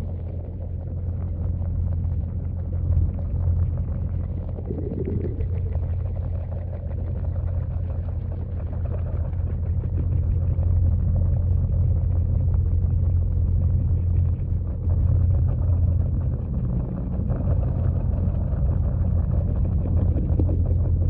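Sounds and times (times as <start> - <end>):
muffled underwater waterfall rumble: 0.0 - 21.0.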